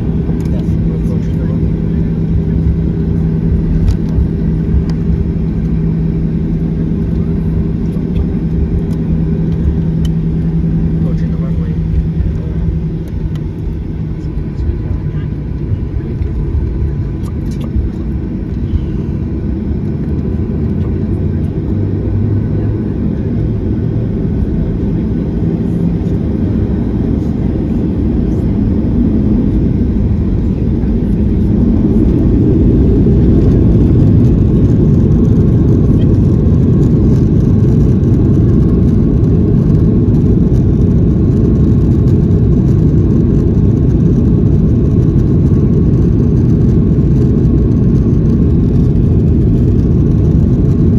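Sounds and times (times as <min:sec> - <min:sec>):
jet engine rumble in cabin: 0:00.0 - 0:50.9.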